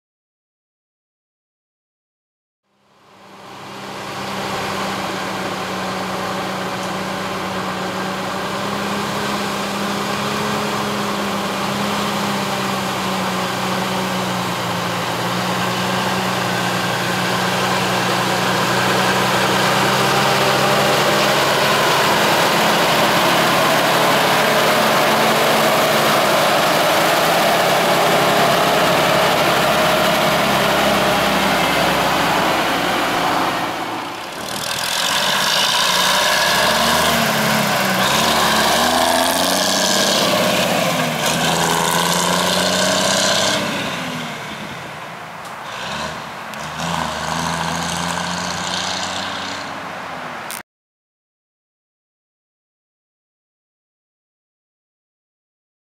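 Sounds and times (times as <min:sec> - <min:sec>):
diesel truck engine running: 0:03.1 - 0:49.7.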